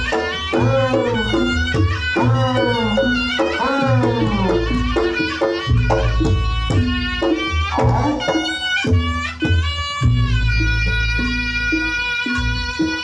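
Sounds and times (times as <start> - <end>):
hand drum strokes: 0.0 - 13.0
reedy wind melody with sliding notes: 0.0 - 13.0.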